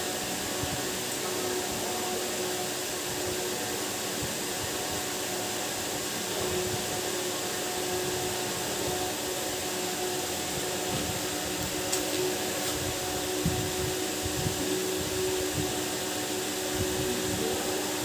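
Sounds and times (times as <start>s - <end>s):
machine whirring with hum: 0.0s - 18.0s.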